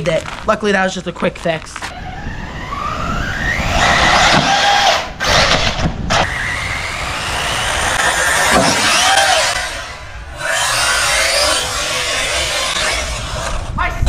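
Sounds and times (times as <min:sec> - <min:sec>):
rc car electric motor whining: 0:01.9 - 0:13.8.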